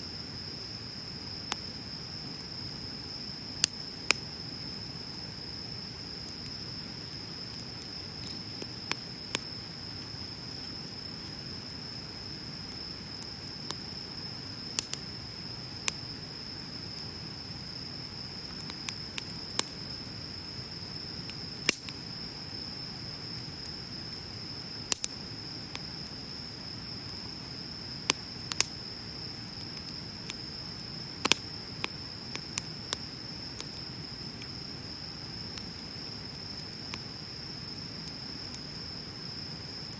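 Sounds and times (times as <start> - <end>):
insect trill: 0.0 - 39.9
bonfire crackling: 0.1 - 39.9.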